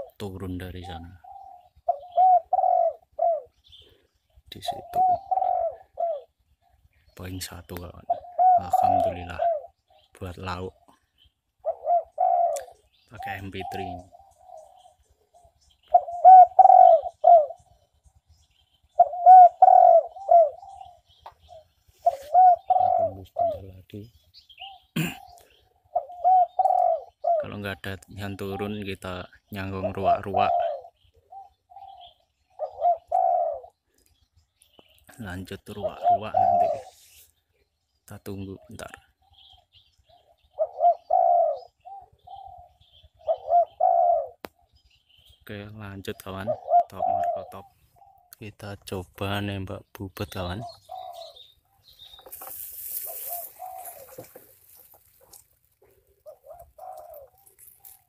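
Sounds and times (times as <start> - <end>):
recorded dove cooing from speaker: 0.0 - 18.0, 18.9 - 34.0, 35.1 - 37.3, 38.2 - 44.8, 45.8 - 58.0
small birds chirping: 0.0 - 58.0.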